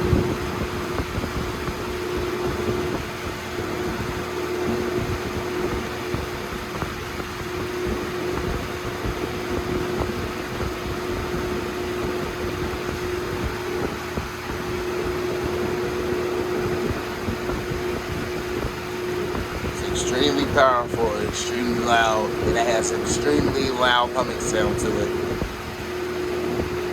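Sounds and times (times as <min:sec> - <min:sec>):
box fan rushing air: 0:00.0 - 0:26.9
fan motor hum: 0:00.0 - 0:26.9.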